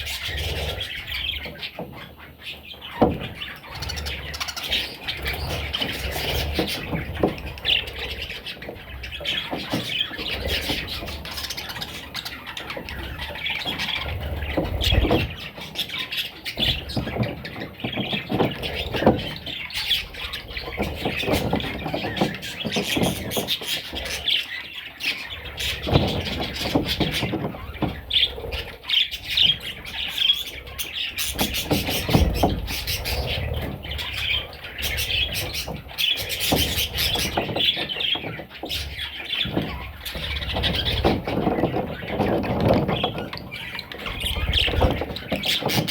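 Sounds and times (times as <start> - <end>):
bird chicks chirping and squawking: 0.0 - 45.9.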